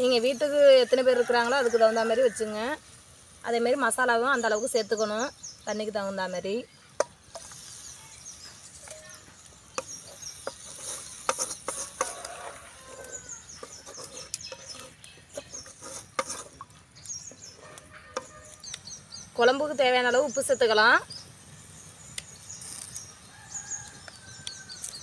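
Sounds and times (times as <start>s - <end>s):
birds calling: 4.2s - 25.0s.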